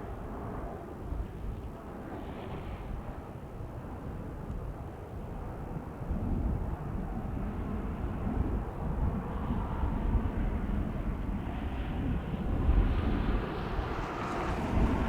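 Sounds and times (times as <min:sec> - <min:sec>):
jet engine rumble and hiss: 0:00.0 - 0:15.0
wind buffeting microphone: 0:00.0 - 0:15.0.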